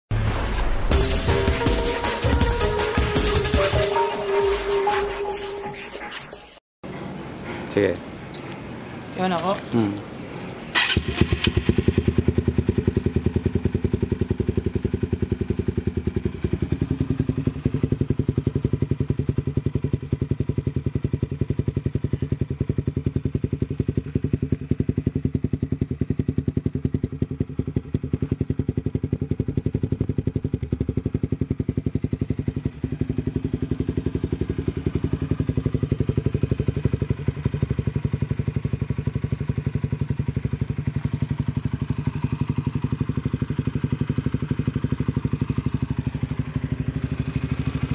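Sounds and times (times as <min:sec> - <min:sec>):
motorcycle engine idling: 0:09.2 - 0:47.9.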